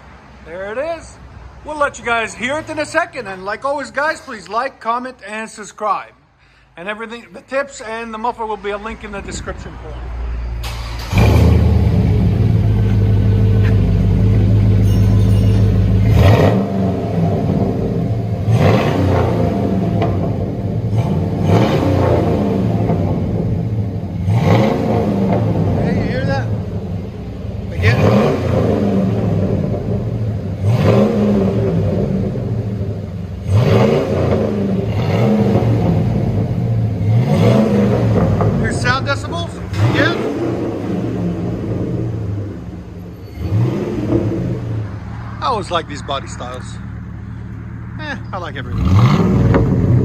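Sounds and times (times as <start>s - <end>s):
engine idling deep tone: 7.1s - 50.0s.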